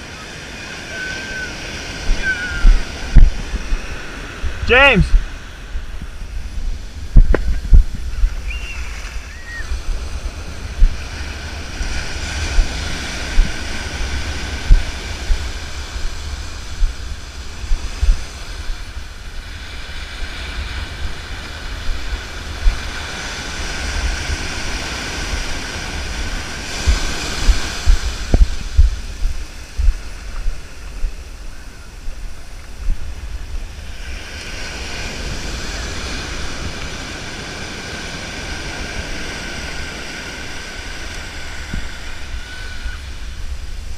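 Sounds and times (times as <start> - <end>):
surf washing up beach: 0.0 - 43.9
wind buffeting microphone: 0.0 - 43.9.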